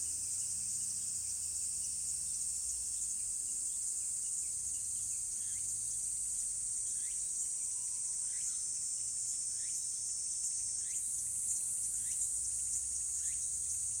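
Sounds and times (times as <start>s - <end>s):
high-pitched insect chorus: 0.7s - 14.0s.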